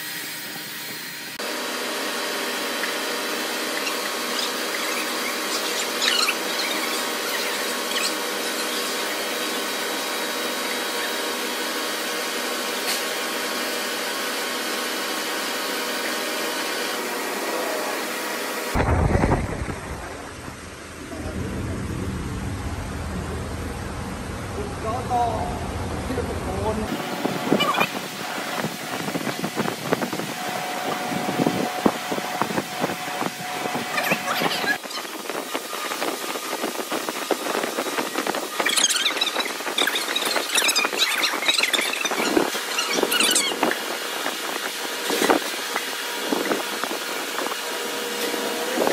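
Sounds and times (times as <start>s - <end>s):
mechanical hum with high whine: 0.0s - 48.9s.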